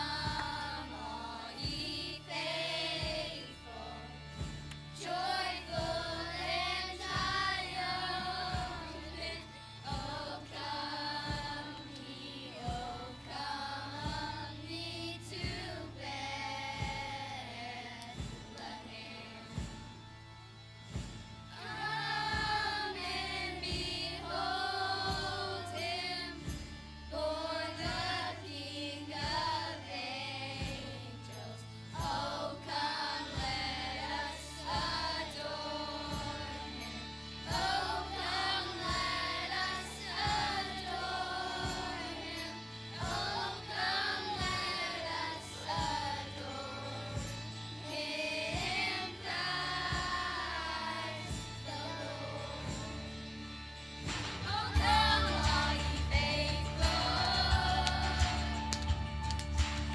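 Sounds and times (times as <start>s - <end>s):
gospel song with choir: 0.0s - 59.9s.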